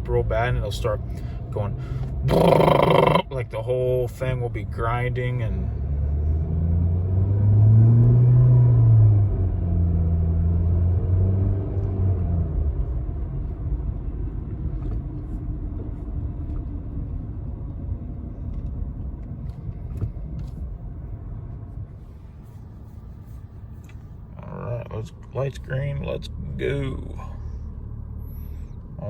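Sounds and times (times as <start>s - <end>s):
car engine droning in cabin: 0.0s - 29.0s.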